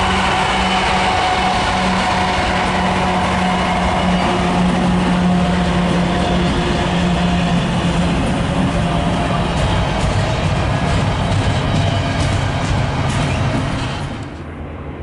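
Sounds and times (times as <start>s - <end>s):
train wheels rumbling on rail: 0.0s - 14.8s
low drone: 0.0s - 15.0s.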